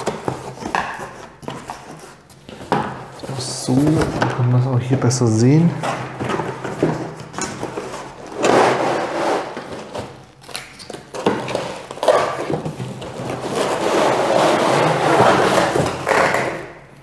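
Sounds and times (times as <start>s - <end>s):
cardboard scraping: 0.0s - 4.2s, 5.7s - 16.4s.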